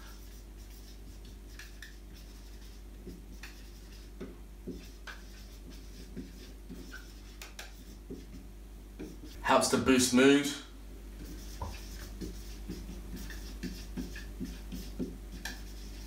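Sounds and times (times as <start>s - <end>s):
marker squeaking on whiteboard: 0.0s - 8.4s, 9.0s - 9.4s, 11.2s - 16.0s
steady low hum: 0.0s - 16.0s.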